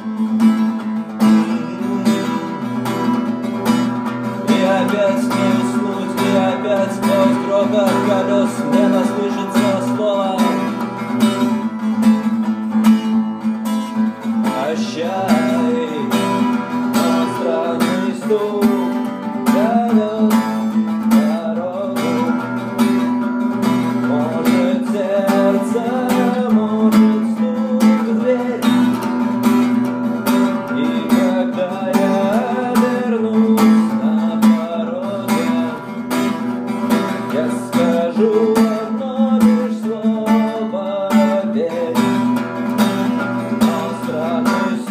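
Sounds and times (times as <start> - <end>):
acoustic guitar strumming: 0.0 - 44.9.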